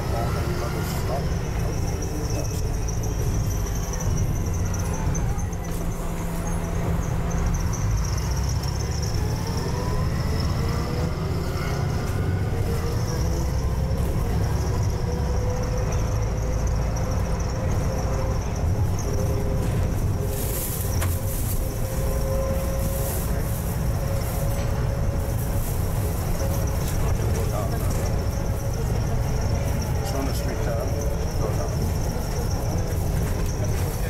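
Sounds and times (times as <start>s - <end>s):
bus engine and road drone: 0.0s - 34.0s.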